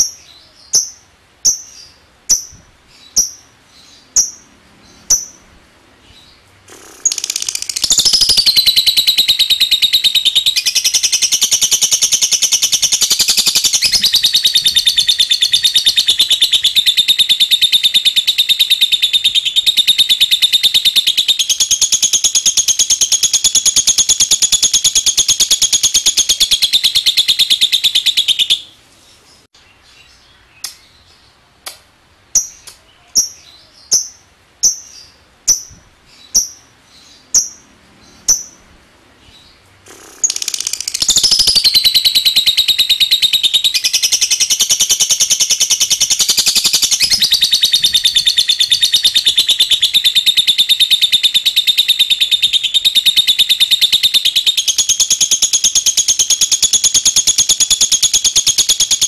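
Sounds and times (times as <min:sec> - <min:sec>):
lovebird chattering trill: 0:00.0 - 0:05.5, 0:06.1 - 0:28.7, 0:32.3 - 0:38.7, 0:39.3 - 0:59.0
bird ticking chirps: 0:00.8 - 0:05.4, 0:06.7 - 0:28.6, 0:36.3 - 0:38.6, 0:39.9 - 0:59.0.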